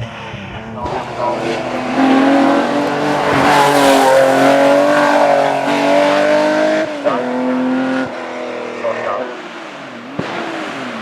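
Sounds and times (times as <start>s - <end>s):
racing engine pulling hard: 0.0s - 11.0s.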